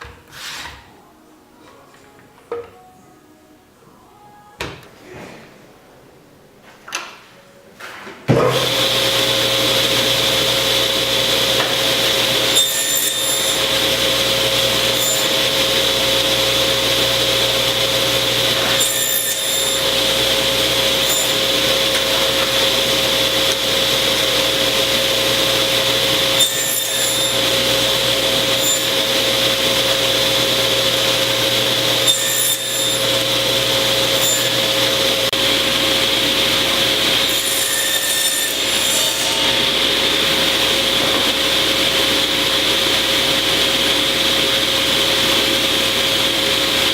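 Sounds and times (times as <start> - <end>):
power tool whining: 8.5 - 46.9.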